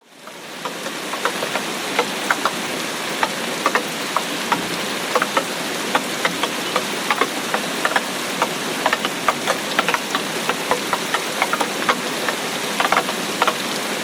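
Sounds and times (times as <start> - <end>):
heavy rain hissing: 0.0 - 14.0
raindrops striking a surface: 0.0 - 14.0.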